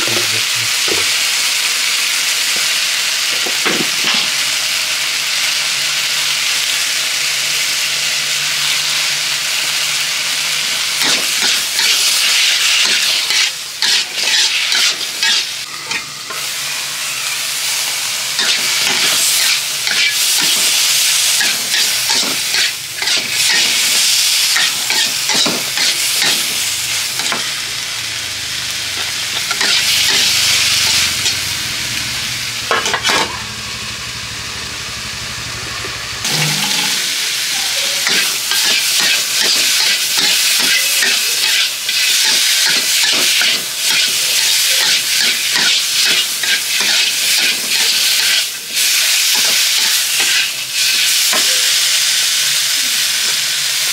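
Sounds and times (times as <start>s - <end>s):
food sizzling in wok: 0.0s - 53.9s.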